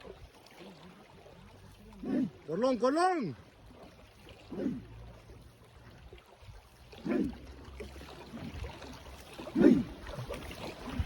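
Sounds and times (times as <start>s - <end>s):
faint water and boat noise: 0.0s - 11.0s
boat crew shouting calls: 0.1s - 6.0s, 6.7s - 11.0s.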